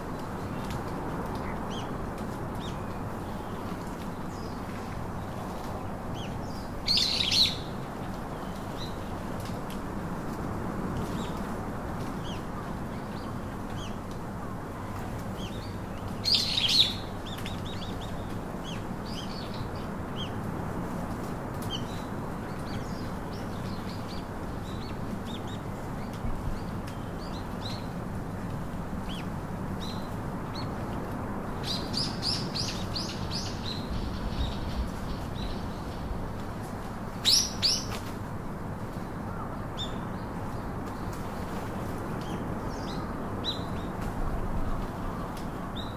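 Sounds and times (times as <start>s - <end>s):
low background noise: 0.0s - 45.9s.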